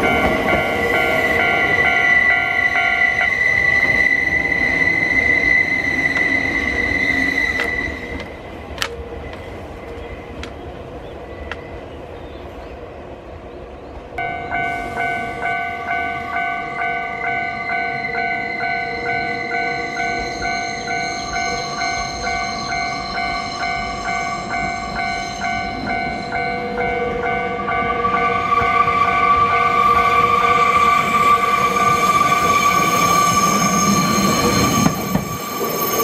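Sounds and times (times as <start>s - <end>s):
level crossing alarm bell: 0.0s - 7.8s, 14.2s - 36.0s
train rumble: 0.0s - 36.0s.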